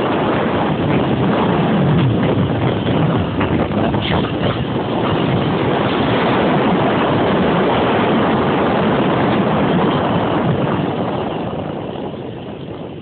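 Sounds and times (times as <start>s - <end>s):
motorcycle engine running: 0.0s - 12.9s
wind rush on microphone: 0.0s - 13.0s.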